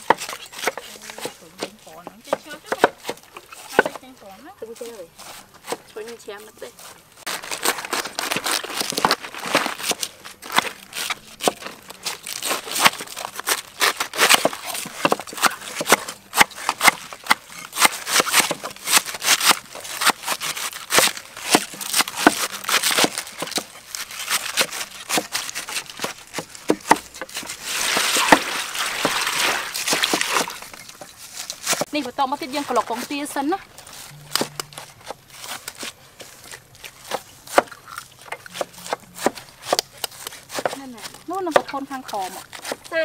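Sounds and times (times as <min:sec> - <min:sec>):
knives chopping cabbage on wood: 0:00.0 - 0:43.0
hand rustling shredded cabbage: 0:04.1 - 0:16.4, 0:17.0 - 0:43.0.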